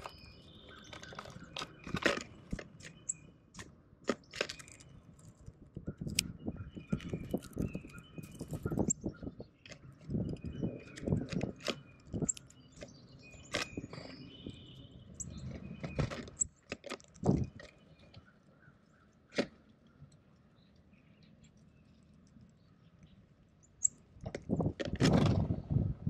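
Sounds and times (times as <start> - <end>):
bird pecking and cracking seed: 0.0 - 14.2, 15.2 - 18.5, 19.3 - 25.0.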